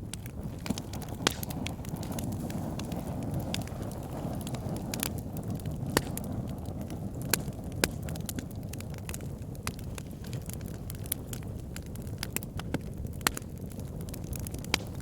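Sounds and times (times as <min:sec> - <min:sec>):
low roar of flames: 0:00.0 - 0:15.0
wood crackling and popping: 0:00.0 - 0:15.0.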